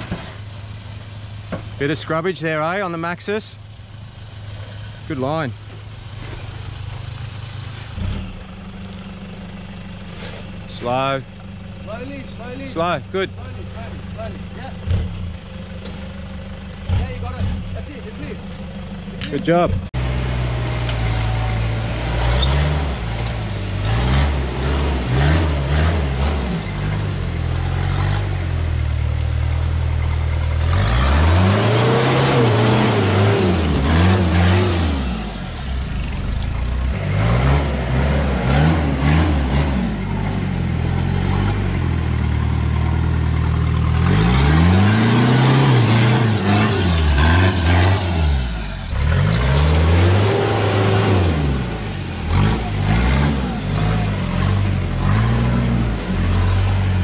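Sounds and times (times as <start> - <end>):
engine running low: 0.0 - 57.0.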